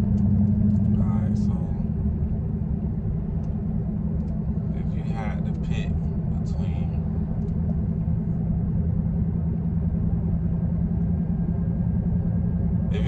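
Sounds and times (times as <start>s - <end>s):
car engine low rumble: 0.0s - 13.0s
road noise: 0.0s - 13.0s.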